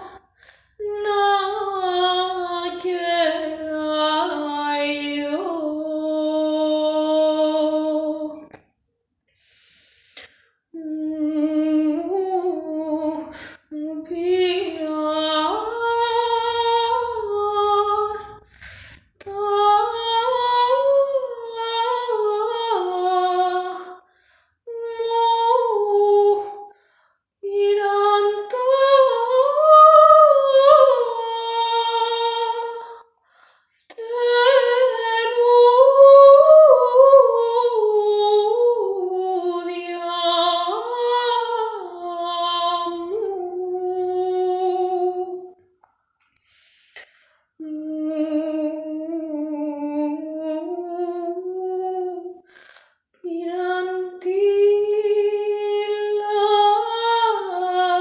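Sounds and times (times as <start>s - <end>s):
woman singing unaccompanied folk song: 0.0s - 8.6s, 10.7s - 18.5s, 19.2s - 45.6s, 47.6s - 58.0s.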